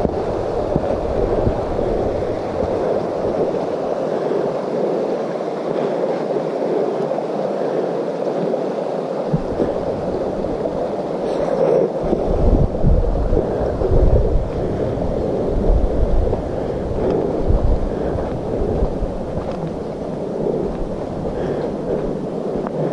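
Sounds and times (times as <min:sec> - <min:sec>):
wind on microphone: 0:00.0 - 0:22.9.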